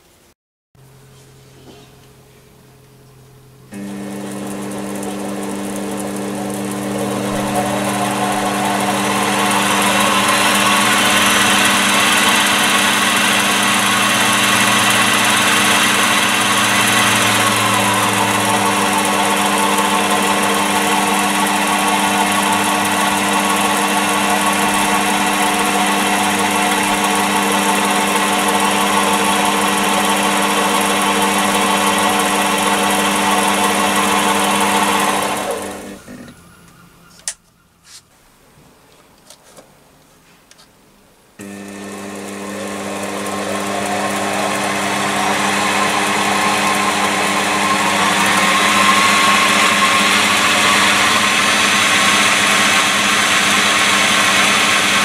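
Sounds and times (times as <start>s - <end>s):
small electric motor whine: 3.4s - 36.4s, 41.4s - 55.0s.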